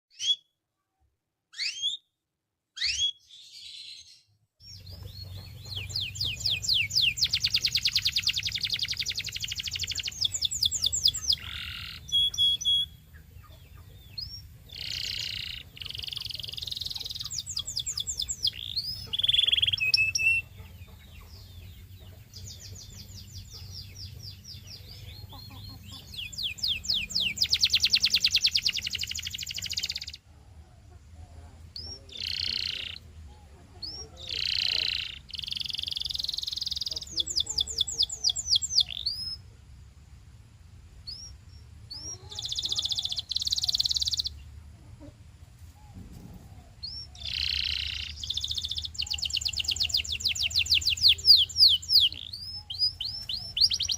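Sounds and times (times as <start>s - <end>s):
canary singing trills: 0.1s - 0.6s, 1.5s - 2.1s, 2.8s - 39.6s, 41.0s - 53.9s.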